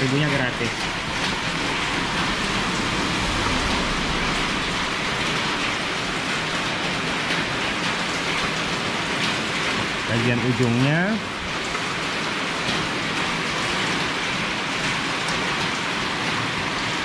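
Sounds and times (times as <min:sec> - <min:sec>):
steady rain-like hiss: 0:00.0 - 0:17.0.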